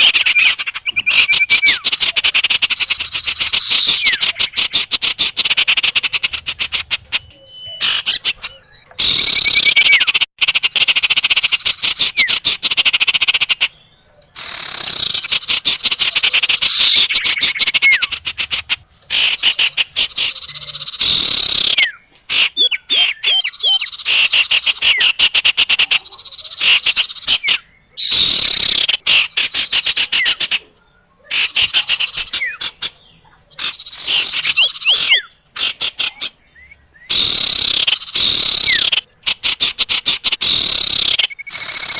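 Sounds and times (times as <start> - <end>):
songbird rattling trills and chirps: 0.0 - 41.9.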